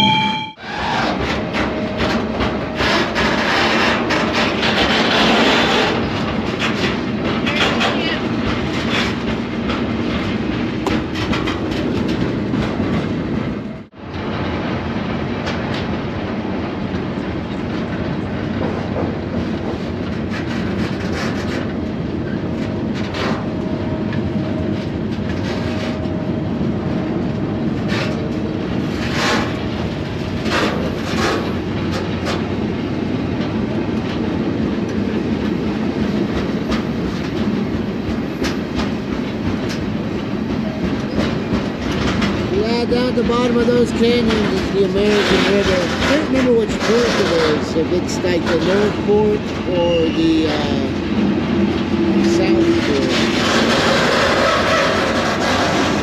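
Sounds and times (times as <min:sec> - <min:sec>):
train rumbling: 0:00.0 - 0:56.0
wheels clacking over rails: 0:00.0 - 0:56.0.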